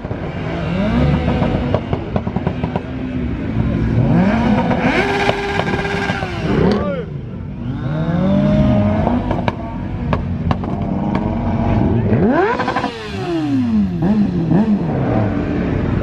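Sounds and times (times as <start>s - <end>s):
sports car engines revving: 0.0s - 16.0s.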